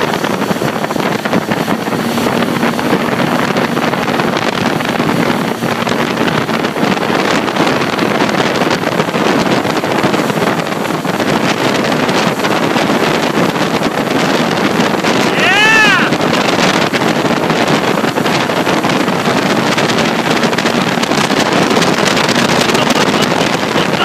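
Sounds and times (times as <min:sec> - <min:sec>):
motorboat engine running: 0:00.0 - 0:24.0
water rushing: 0:00.0 - 0:24.0
wind buffeting microphone: 0:00.0 - 0:24.0.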